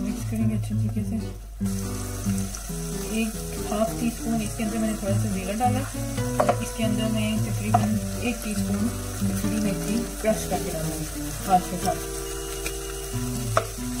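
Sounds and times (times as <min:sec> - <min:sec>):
onions sizzling in butter: 0:00.0 - 0:14.0.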